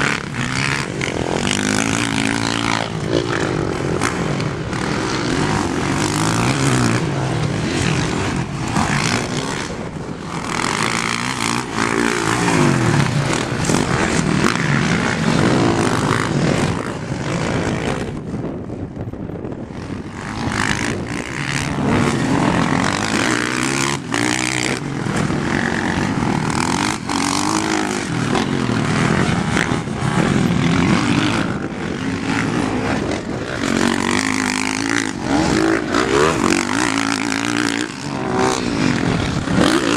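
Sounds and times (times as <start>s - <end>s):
dirt bike engine revving: 0.0s - 18.6s, 19.6s - 39.9s.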